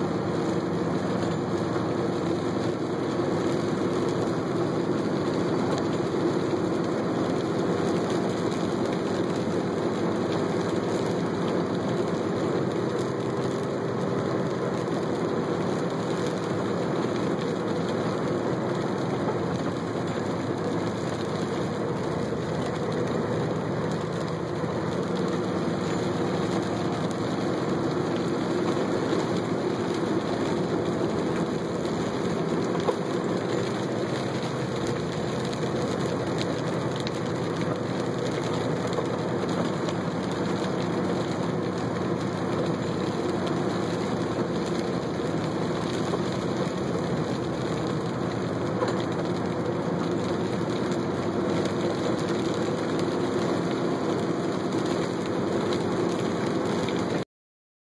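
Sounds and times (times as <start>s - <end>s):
light rain: 0.0s - 57.2s
tyres on wet pavement: 0.0s - 57.2s
vehicle engine running: 0.0s - 57.2s.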